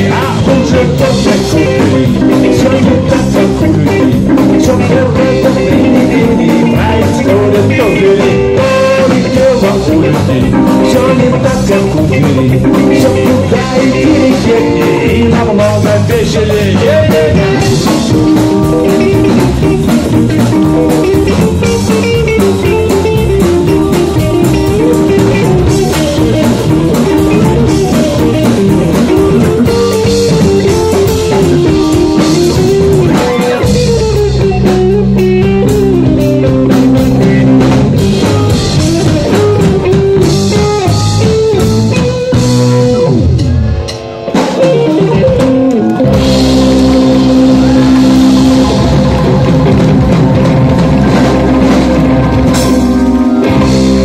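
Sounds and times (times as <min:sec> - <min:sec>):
electric guitar: 0:00.0 - 0:54.0
live rock band playing: 0:00.0 - 0:54.0.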